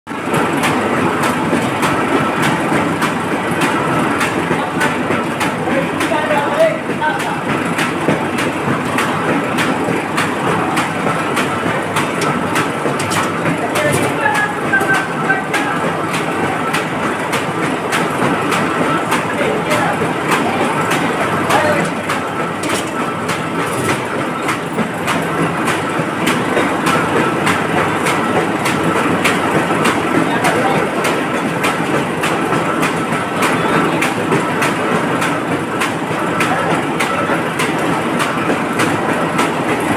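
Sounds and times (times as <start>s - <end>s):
machine cutting clack: 0.1s - 39.9s
machine mechanical din: 0.3s - 39.9s.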